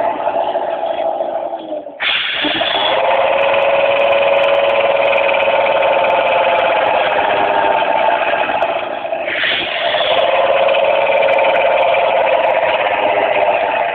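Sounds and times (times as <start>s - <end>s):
vacuum pump and electric motor running: 0.0s - 13.9s.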